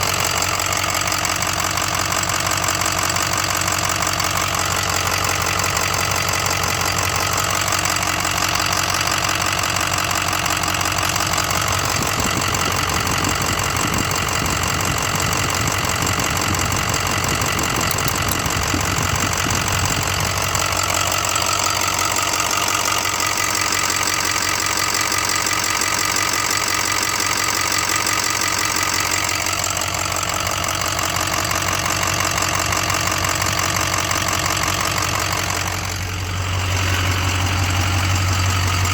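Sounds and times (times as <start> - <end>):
diesel engine idling: 0.0 - 38.9
rapid engine ticking: 0.0 - 38.9.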